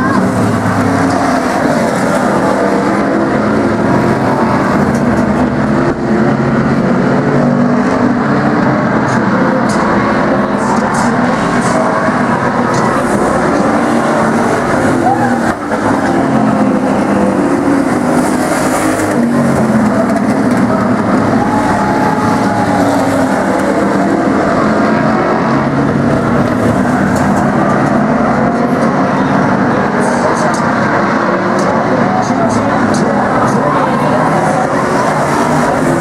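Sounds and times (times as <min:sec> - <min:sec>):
racing car engines: 0:00.0 - 0:36.0.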